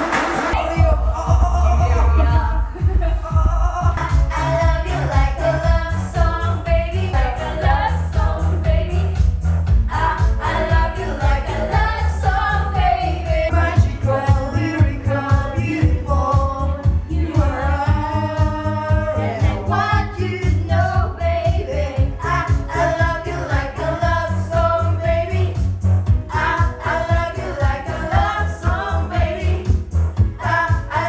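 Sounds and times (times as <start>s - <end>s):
backing track with heavy bass: 0.0s - 31.0s
group singing karaoke: 0.0s - 31.0s.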